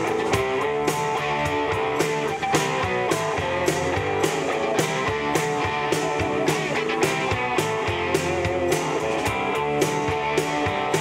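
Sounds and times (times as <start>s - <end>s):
drum hits: 0.0s - 11.0s
live rock band playing: 0.0s - 11.0s.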